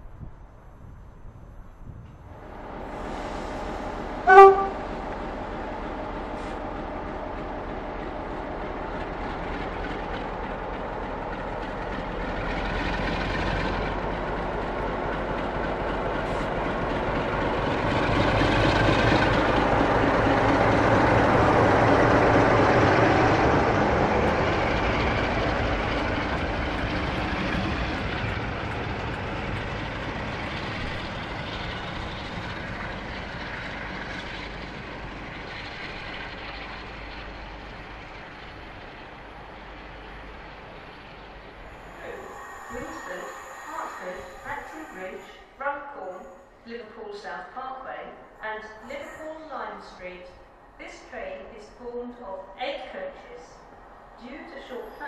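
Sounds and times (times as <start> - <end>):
diesel locomotives passing: 0.0 - 55.0.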